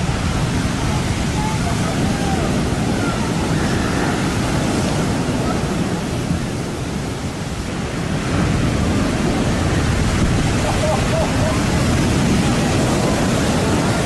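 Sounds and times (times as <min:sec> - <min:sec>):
foaming water rushing up beach: 0:00.0 - 0:14.0
waves breaking over rocks: 0:00.0 - 0:14.0.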